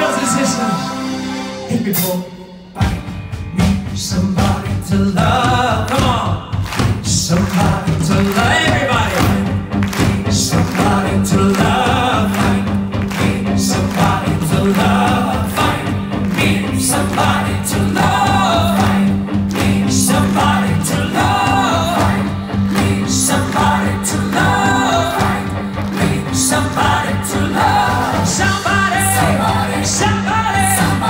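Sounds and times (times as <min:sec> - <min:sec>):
live rock band playing: 0:00.0 - 0:31.0
man singing: 0:00.0 - 0:31.0.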